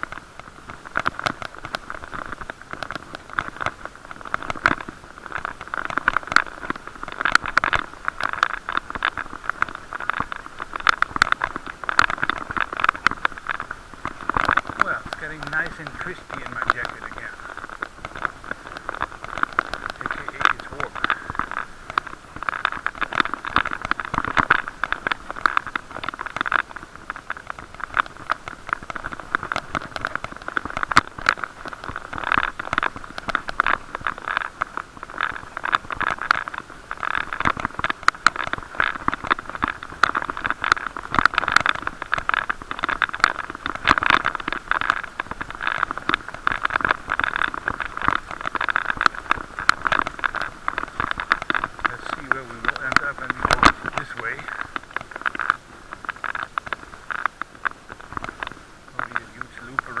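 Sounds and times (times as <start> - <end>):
crackling and scraping camera case: 0.0 - 60.0.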